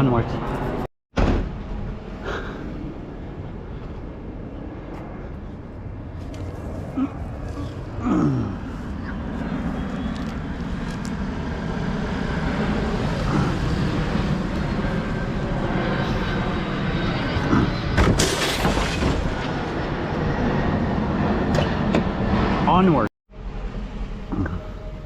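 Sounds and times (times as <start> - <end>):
vehicle engine and road noise: 0.0 - 18.2, 18.9 - 25.0.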